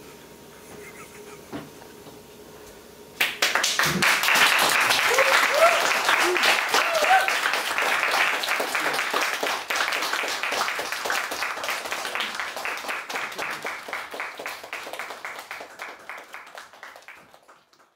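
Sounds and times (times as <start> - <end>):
audience applauding: 3.2 - 17.9.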